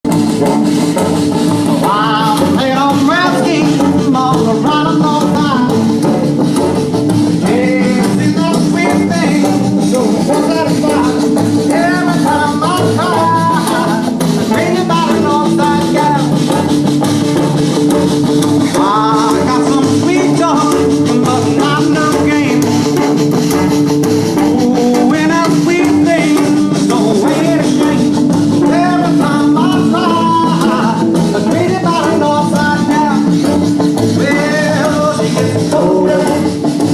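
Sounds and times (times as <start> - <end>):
guitar and drums: 0.0 - 36.9
rock band playing: 0.0 - 36.9
person singing: 1.7 - 6.3, 7.3 - 16.8, 18.6 - 23.2, 24.4 - 36.9.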